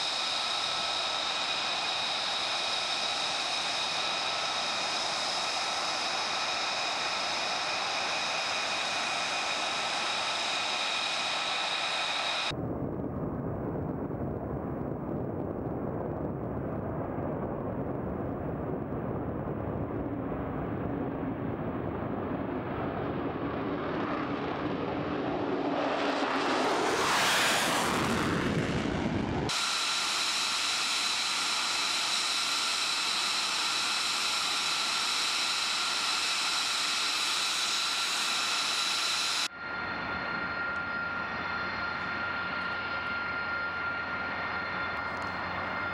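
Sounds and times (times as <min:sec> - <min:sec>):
jet engine whining: 0:00.0 - 0:12.6, 0:21.1 - 0:45.9
low jet roar: 0:00.0 - 0:45.9.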